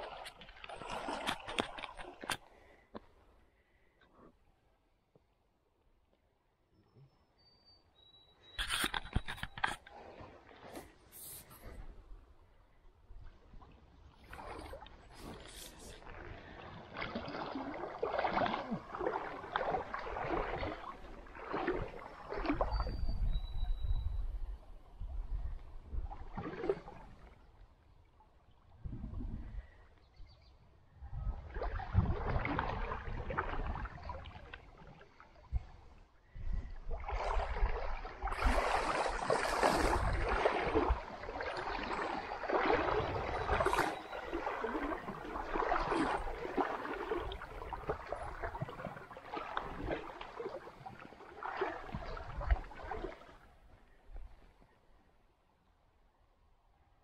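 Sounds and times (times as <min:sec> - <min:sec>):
stream water splashing and gurgling: 0:00.0 - 0:03.9, 0:08.4 - 0:29.9, 0:30.9 - 0:54.8.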